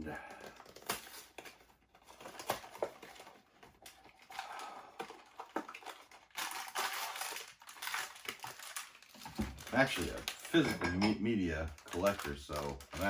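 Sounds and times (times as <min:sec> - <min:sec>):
foil packet crinkling: 0:00.1 - 0:10.7, 0:11.6 - 0:13.0.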